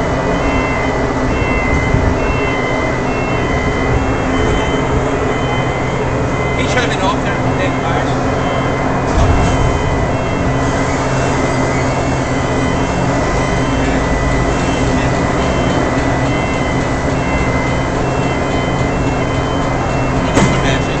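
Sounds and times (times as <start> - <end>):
heavy machinery hum: 0.0 - 21.0.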